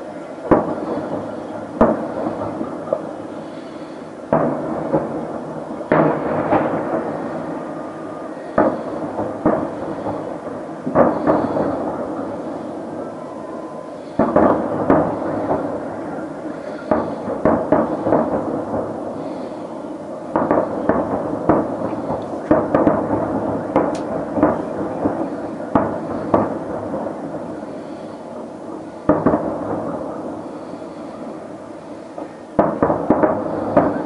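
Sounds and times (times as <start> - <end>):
firework shells bursting: 0.4 - 34.0.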